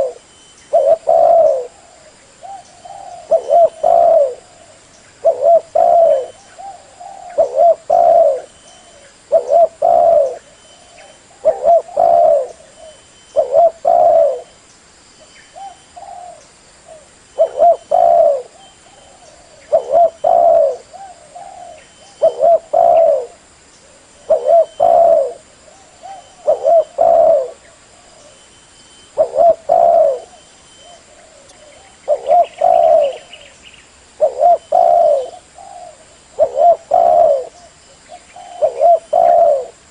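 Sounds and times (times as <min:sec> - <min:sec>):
dove cooing: 0:00.0 - 0:14.6, 0:15.5 - 0:33.6, 0:34.2 - 0:39.9.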